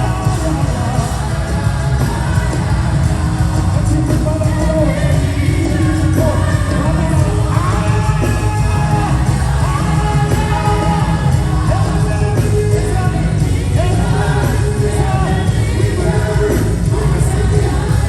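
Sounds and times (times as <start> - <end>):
worship band with singing: 0.0 - 18.0.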